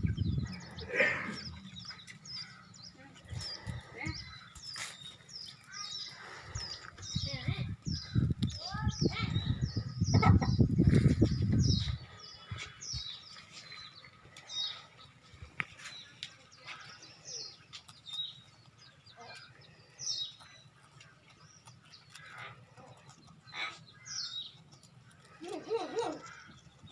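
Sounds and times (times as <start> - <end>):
small bird chirping: 0.0 - 26.9.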